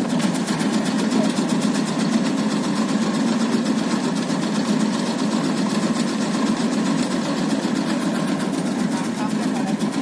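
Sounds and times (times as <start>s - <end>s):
leaf cutting machine running: 0.0s - 10.0s.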